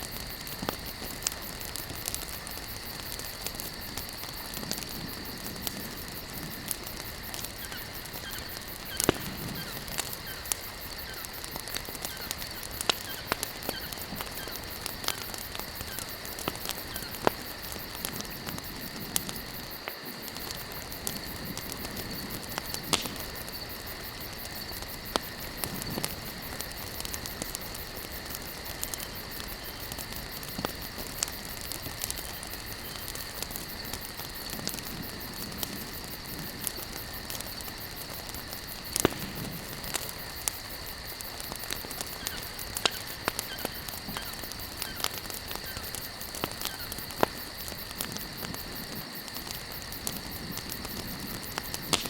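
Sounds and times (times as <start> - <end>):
campfire crackling and popping: 0.0 - 52.0
fire hissing: 0.0 - 52.0
insect trill: 0.0 - 52.0.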